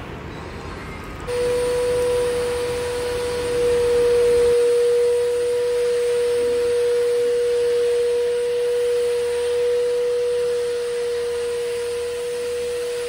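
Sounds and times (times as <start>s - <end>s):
vacuum cleaner running: 1.2s - 13.0s.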